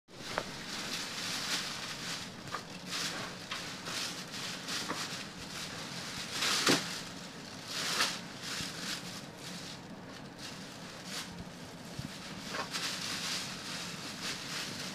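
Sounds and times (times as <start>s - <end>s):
plastic bag crinkling: 0.1s - 14.9s.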